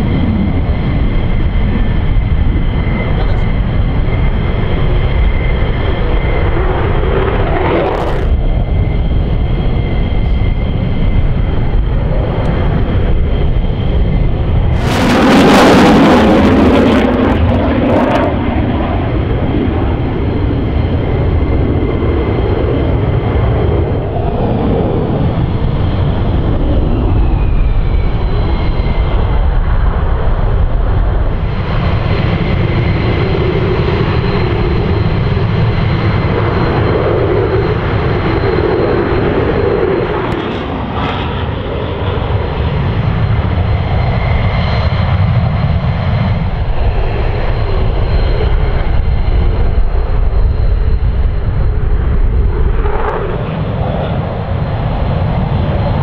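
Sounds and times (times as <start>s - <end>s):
jet engine whine falling in pitch: 0.0s - 56.0s
jet engines rumbling: 0.0s - 56.0s.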